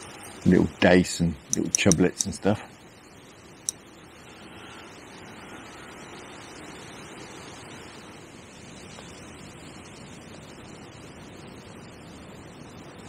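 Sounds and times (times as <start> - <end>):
wind through grass and reeds: 0.0 - 13.0.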